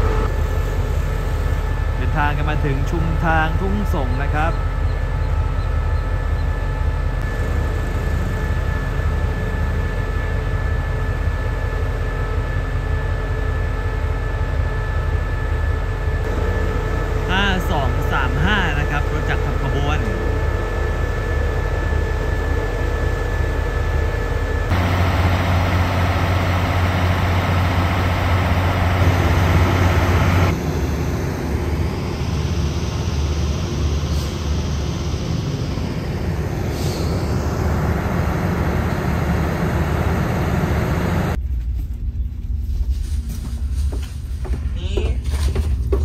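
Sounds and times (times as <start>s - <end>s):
train rumbling on rails: 0.0s - 46.0s.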